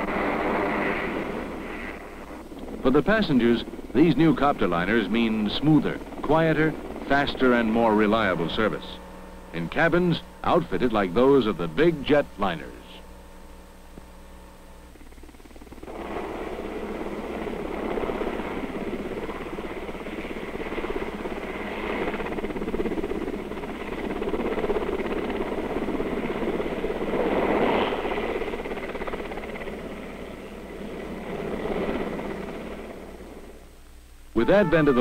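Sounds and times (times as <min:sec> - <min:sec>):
helicopter rotor and engine noise: 0:00.0 - 0:33.7.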